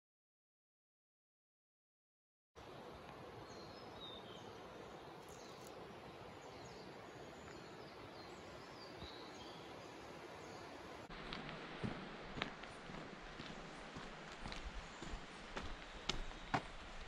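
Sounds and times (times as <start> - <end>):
soft steady hiss: 2.6 - 17.0.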